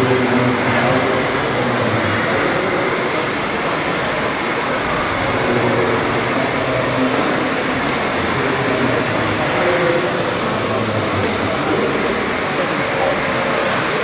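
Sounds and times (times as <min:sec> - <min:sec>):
indistinct voices: 0:00.0 - 0:14.0
model tractor engine drone: 0:00.0 - 0:14.0.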